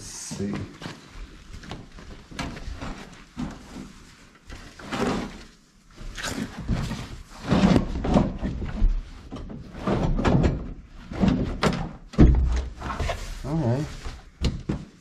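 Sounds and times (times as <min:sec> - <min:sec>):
carpet rustling and scraping: 0:00.4 - 0:11.8, 0:12.4 - 0:15.0.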